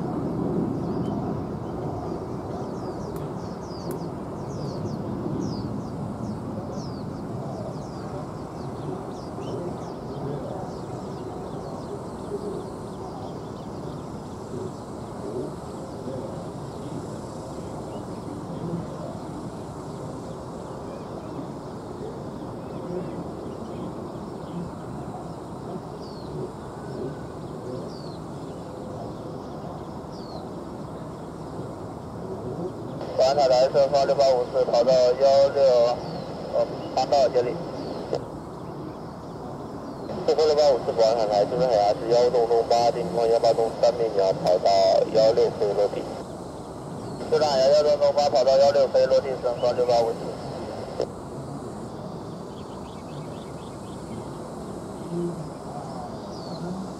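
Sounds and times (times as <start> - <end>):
distant airport rumble: 0.0 - 56.9
small birds chirping: 0.6 - 56.9.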